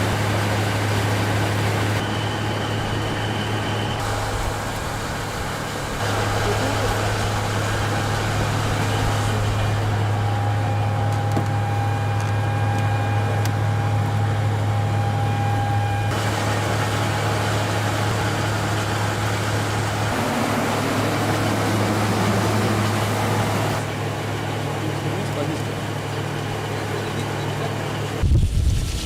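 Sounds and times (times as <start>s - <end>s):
helicopter running: 0.0s - 28.8s.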